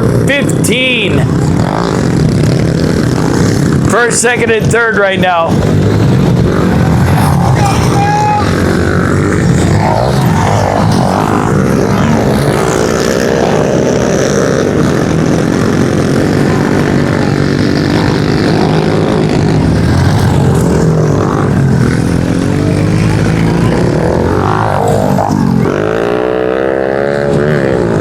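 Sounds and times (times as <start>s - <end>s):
pit bike engines racing: 0.0s - 28.0s.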